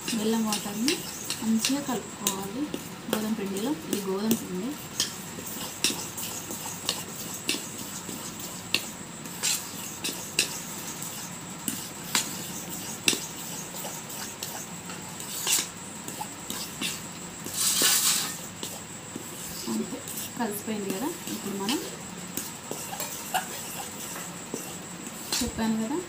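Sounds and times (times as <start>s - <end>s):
batter mixed by hand: 0.0s - 26.0s.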